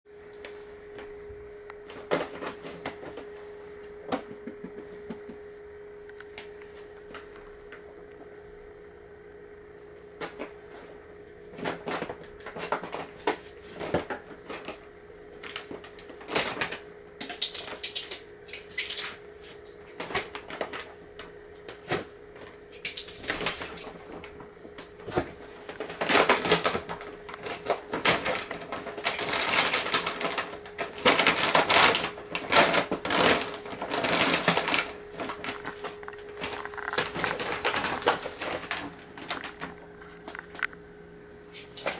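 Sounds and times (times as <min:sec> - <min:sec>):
steady low hum: 0:00.1 - 0:41.9
paper bag crinkling and rustling: 0:01.8 - 0:05.1, 0:10.2 - 0:40.8, 0:41.5 - 0:41.9.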